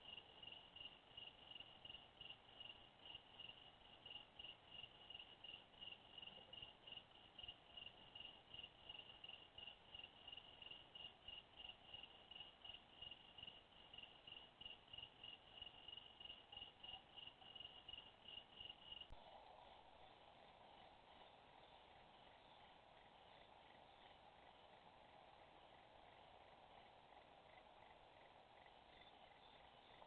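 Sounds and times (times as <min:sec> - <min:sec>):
faint cricket chirping: 0:00.0 - 0:30.0.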